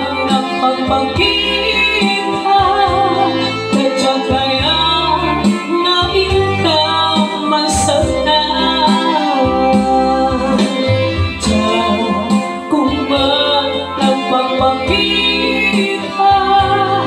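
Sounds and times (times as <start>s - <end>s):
electronic keyboard chords and bass: 0.0s - 17.0s
woman singing into microphone: 0.0s - 17.0s.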